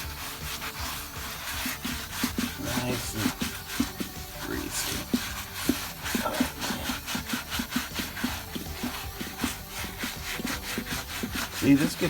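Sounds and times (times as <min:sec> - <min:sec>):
wipe scrubbing wire-spoke wheel: 0:00.0 - 0:12.0.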